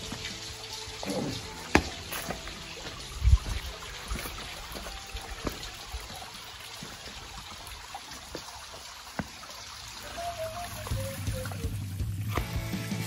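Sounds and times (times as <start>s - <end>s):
water running over rocks: 0.0s - 13.0s.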